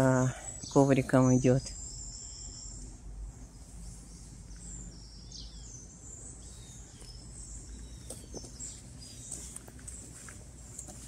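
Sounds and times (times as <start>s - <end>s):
insects trilling: 0.0s - 10.3s.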